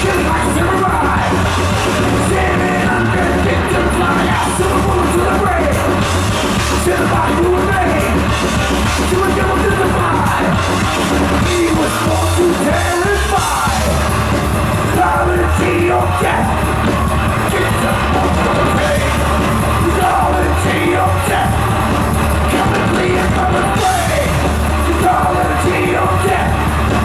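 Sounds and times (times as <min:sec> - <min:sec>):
bass guitar: 0:00.0 - 0:27.0
distorted guitars: 0:00.0 - 0:27.0
drums: 0:00.0 - 0:27.0
shouted vocals: 0:00.0 - 0:27.0.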